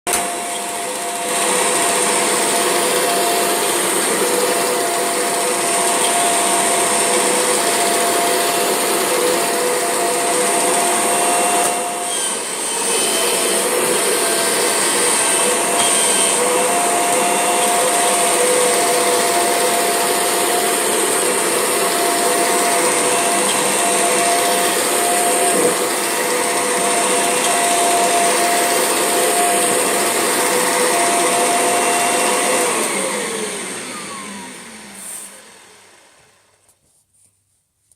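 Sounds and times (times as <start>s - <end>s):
vacuum cleaner motor whine: 0.1s - 36.6s.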